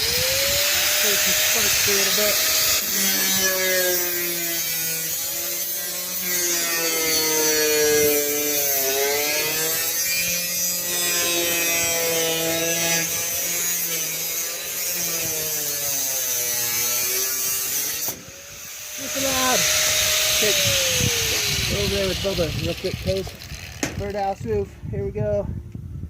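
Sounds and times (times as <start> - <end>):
power tool cutting metal sheet: 0.0 - 24.5.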